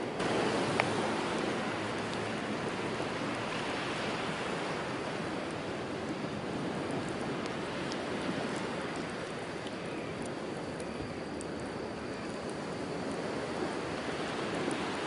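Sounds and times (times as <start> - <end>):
campfire crackling: 0.0 - 15.0
sea waves on the shore: 0.0 - 15.0.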